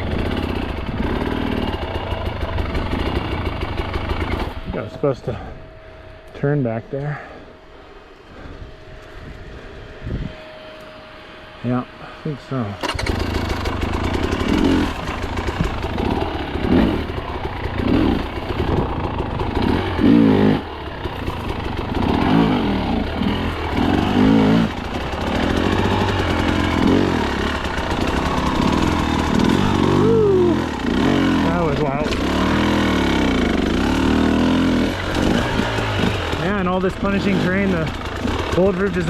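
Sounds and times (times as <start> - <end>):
dirt bike engine revving: 0.0 - 5.5, 12.8 - 39.0.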